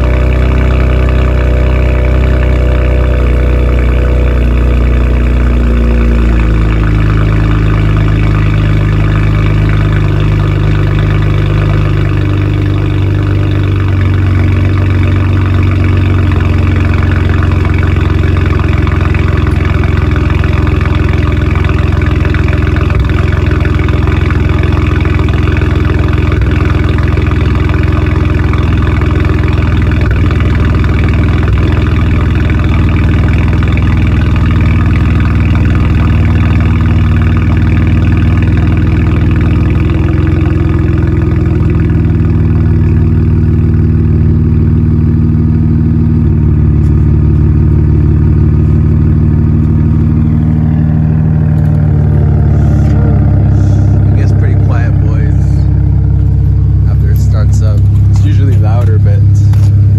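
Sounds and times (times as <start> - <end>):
car exhaust idling drone: 0.0 - 59.9.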